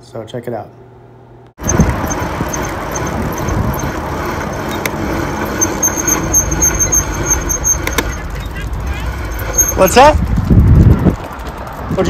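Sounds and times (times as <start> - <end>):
fast high ticking: 1.6 - 12.0
wind rumbling on microphone: 1.6 - 12.0.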